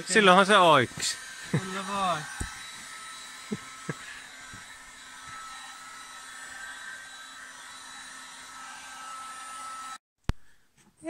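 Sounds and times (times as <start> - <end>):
heat gun whirring: 0.0 - 10.0.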